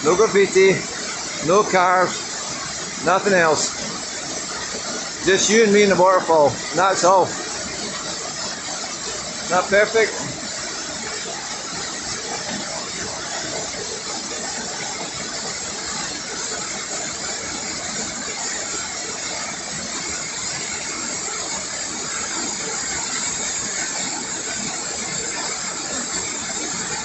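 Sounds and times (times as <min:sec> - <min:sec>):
waterfall rushing into river: 0:00.0 - 0:27.0.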